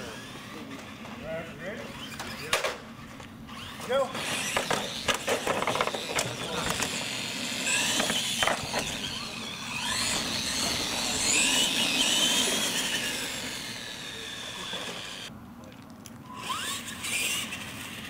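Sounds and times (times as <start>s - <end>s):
toy truck motor whining: 0.0s - 15.3s, 16.3s - 18.0s.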